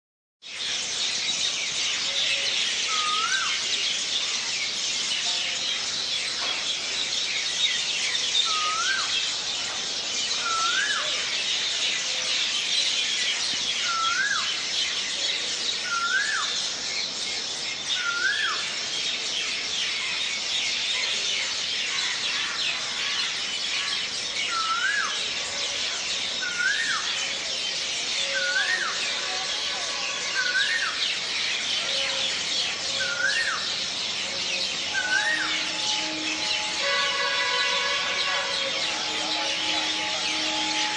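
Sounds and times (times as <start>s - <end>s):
many birds chirping: 0.4s - 40.9s.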